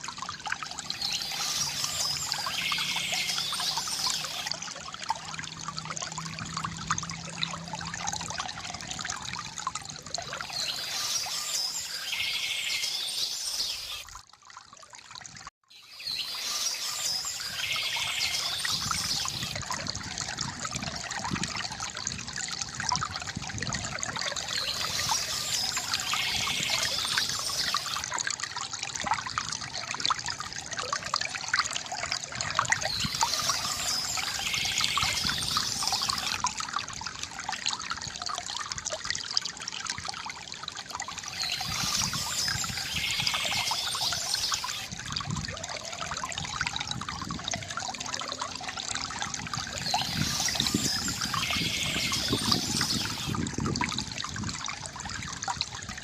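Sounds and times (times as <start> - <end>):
water trickling into a pool: 0.0 - 56.0.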